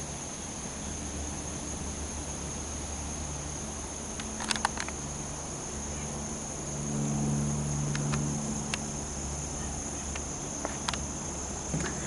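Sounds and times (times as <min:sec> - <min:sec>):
high-pitched insect chorus: 0:00.0 - 0:12.0
low hum: 0:00.0 - 0:12.0.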